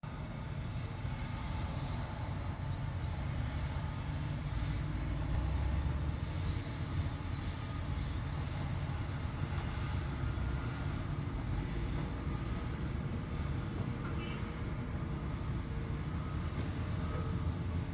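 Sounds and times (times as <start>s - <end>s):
heavy vehicle engine rumbling: 0.0s - 17.9s.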